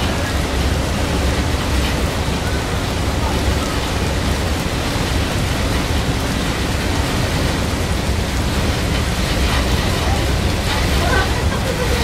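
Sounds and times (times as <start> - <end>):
rain rushing: 0.0 - 12.0.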